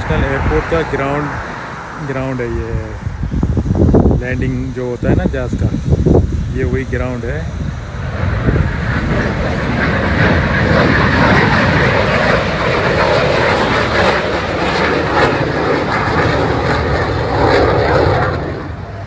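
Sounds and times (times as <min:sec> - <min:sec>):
aircraft engines rushing: 0:00.0 - 0:19.0.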